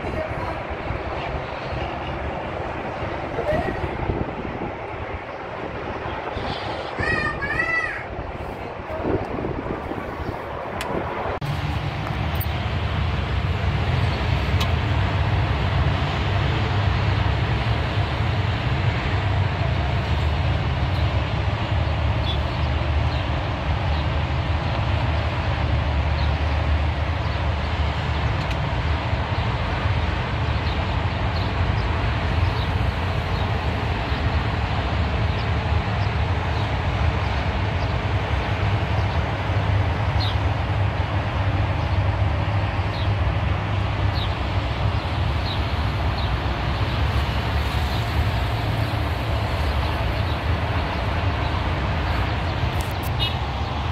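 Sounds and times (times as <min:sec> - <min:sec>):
highway traffic drone: 0:00.0 - 0:53.9.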